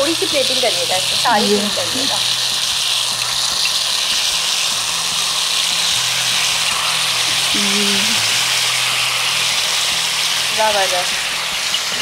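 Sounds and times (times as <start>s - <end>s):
food sizzling on hot plate: 0.0s - 12.0s.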